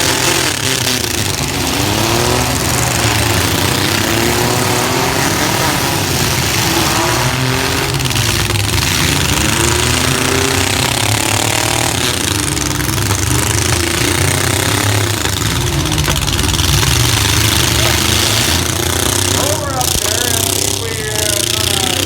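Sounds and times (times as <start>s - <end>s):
truck engines revving: 0.0s - 22.0s
steady low drone: 1.2s - 22.0s.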